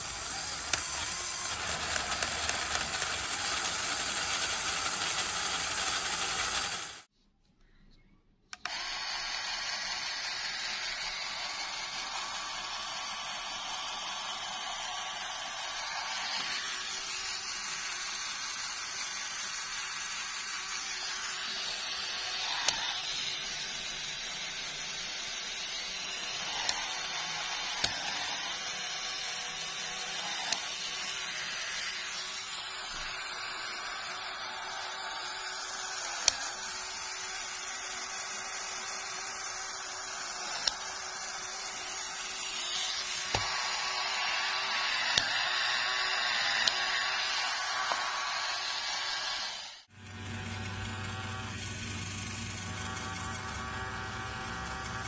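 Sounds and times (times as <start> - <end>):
small electric motor whirring: 0.0 - 7.1, 8.6 - 55.0.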